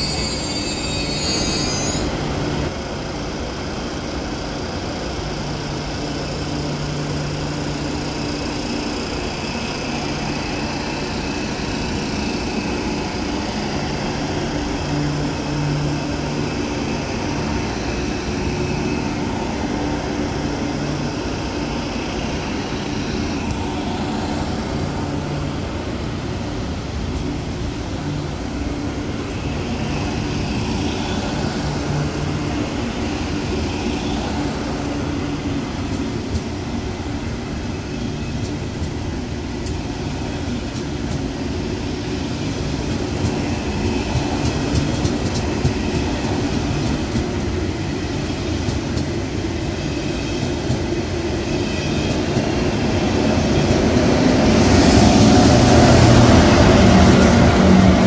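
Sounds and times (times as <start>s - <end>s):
train rail rumble: 0.0s - 58.0s.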